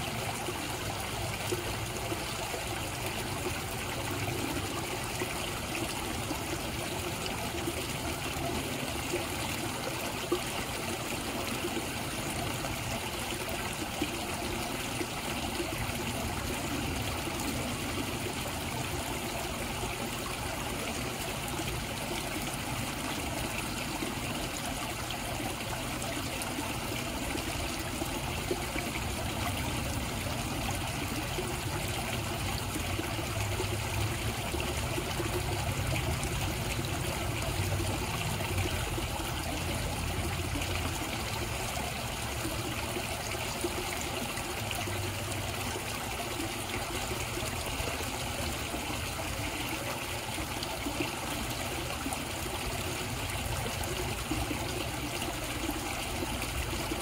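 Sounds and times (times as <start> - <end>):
water running in pond: 0.0 - 57.0.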